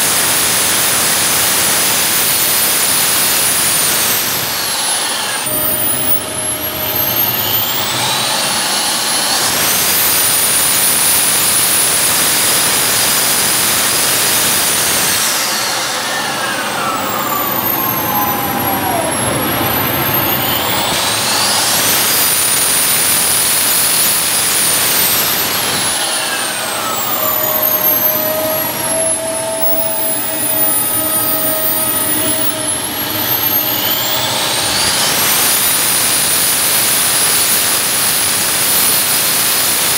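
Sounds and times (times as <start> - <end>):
model jet turbine whine: 0.0 - 39.9.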